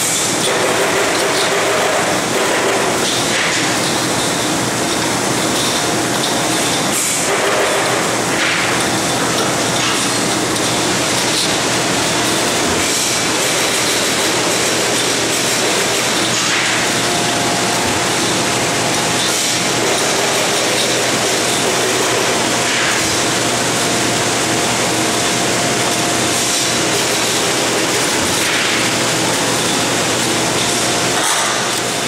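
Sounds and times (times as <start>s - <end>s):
workshop machinery running: 0.0s - 32.0s.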